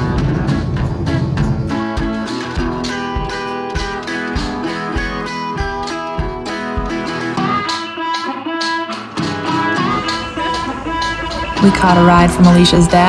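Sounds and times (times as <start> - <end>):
guitar-led background music: 0.0 - 13.0.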